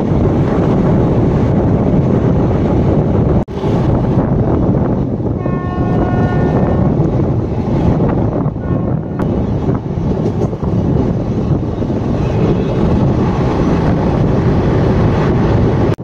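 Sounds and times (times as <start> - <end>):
rushing wind: 0.0 - 16.0
train wheels rumbling on rails: 0.0 - 16.0.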